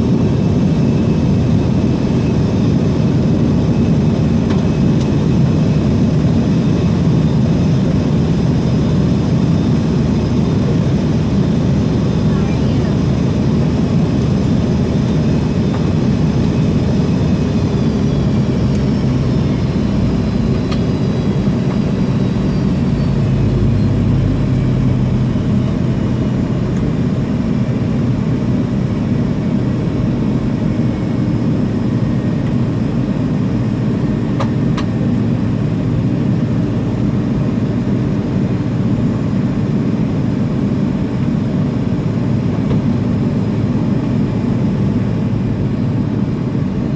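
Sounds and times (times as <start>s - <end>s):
high engine whines: 0.0s - 46.9s
jet engines rumbling: 0.0s - 46.9s.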